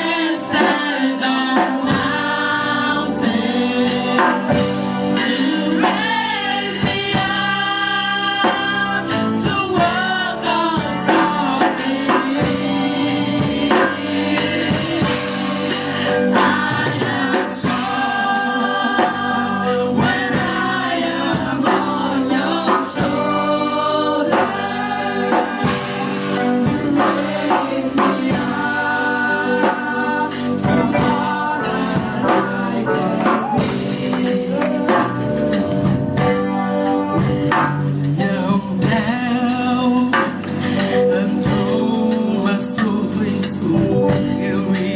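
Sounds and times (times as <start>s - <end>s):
percussion steady beat: 0.0s - 39.5s
gospel choir singing: 0.0s - 44.9s
instrumental accompaniment: 0.0s - 44.9s.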